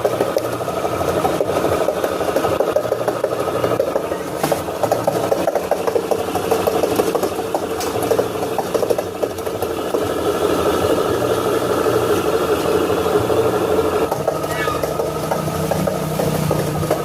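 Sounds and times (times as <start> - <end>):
washing machine drum grinding: 0.0 - 17.0.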